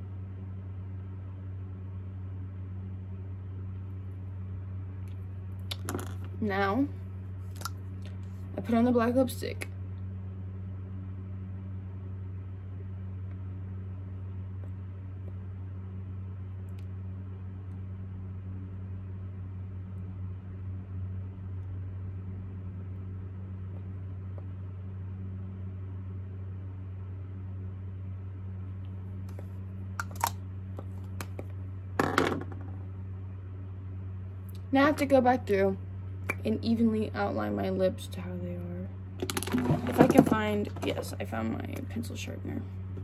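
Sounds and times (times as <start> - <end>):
low room hum: 0.0 - 43.0.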